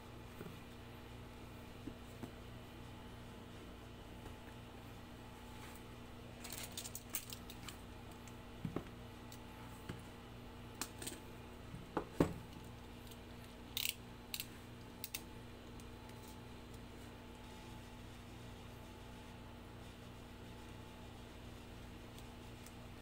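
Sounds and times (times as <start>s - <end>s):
air conditioner hum: 0.0s - 23.0s.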